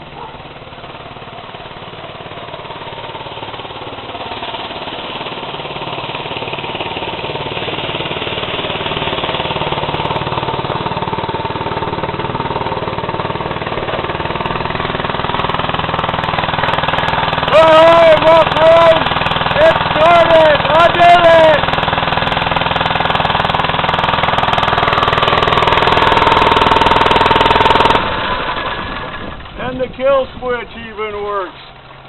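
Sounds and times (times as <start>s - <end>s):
motorized bicycle engine rattling: 0.0s - 32.0s.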